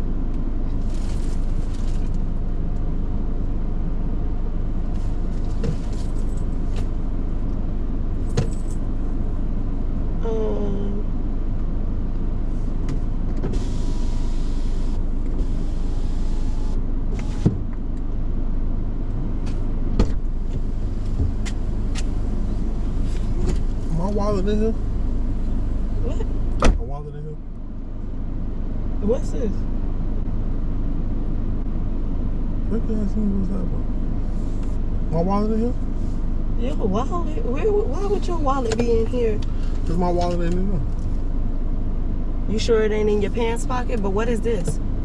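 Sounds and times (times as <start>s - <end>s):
car interior rumble: 0.0s - 45.0s.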